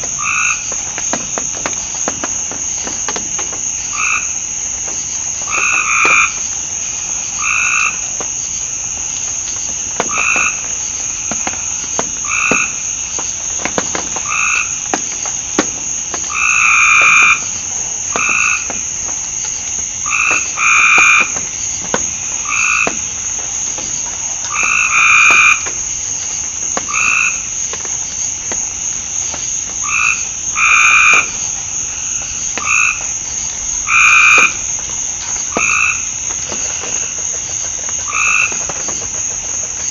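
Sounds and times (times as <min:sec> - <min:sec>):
frogs croaking in chorus: 0:00.0 - 0:39.9
night insects droning: 0:00.0 - 0:39.9.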